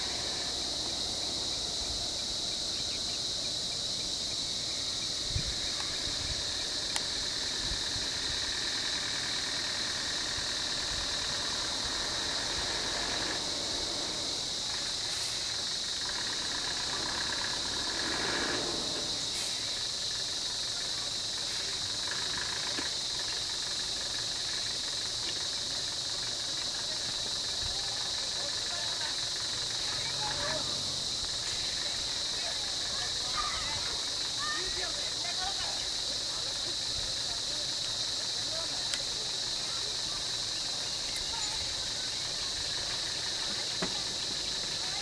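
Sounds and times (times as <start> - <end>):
high-pitched insect chorus: 0.0 - 45.0
vehicle engine idling: 0.0 - 45.0.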